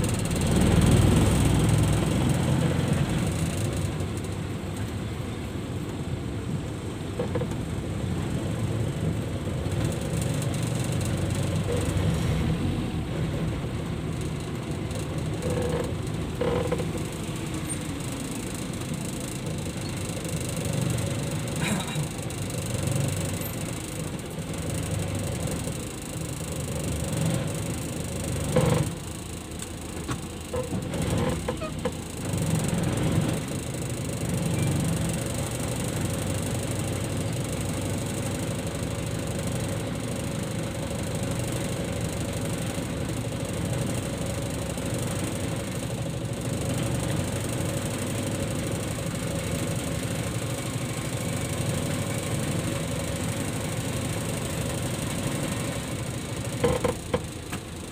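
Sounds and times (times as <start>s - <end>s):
van engine and road noise: 0.0s - 57.9s.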